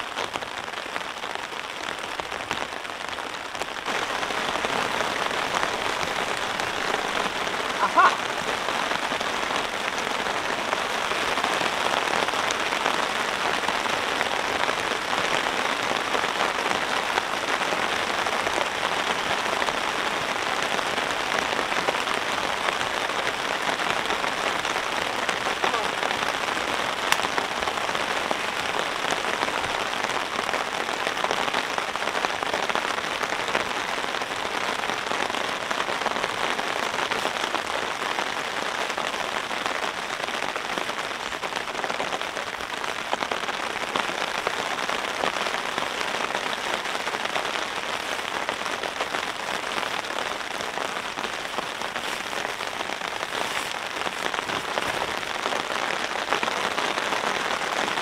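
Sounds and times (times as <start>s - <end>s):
rain on a tarp: 0.0s - 58.0s.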